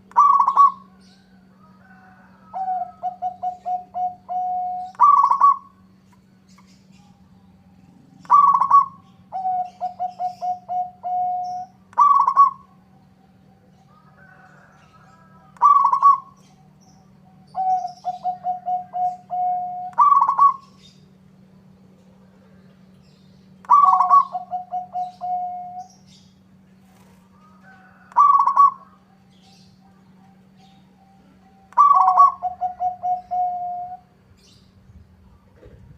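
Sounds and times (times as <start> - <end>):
dove cooing: 0.0 - 6.0, 6.9 - 21.1, 23.6 - 26.2, 26.8 - 34.5.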